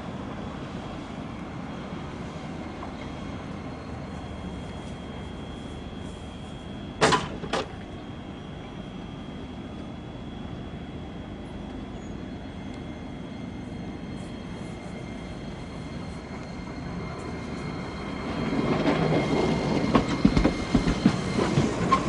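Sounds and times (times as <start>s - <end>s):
streetcar humming: 0.0s - 22.0s.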